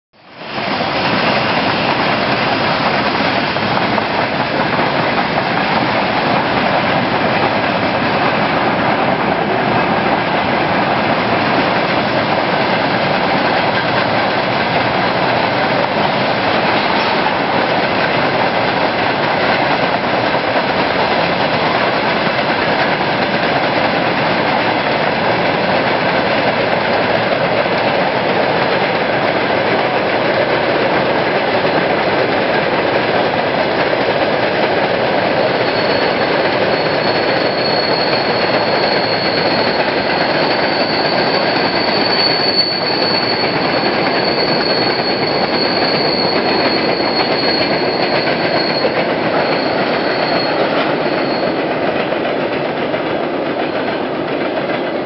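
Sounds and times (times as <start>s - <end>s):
freight train rolling past: 0.2s - 55.0s.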